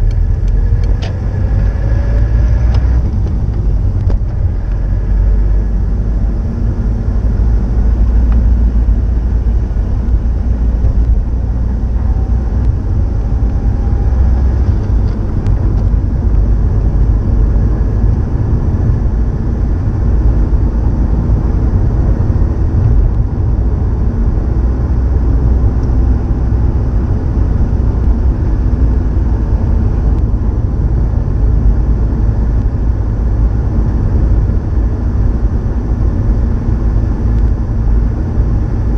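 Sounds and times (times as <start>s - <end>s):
car engine idling drone: 0.0s - 38.9s.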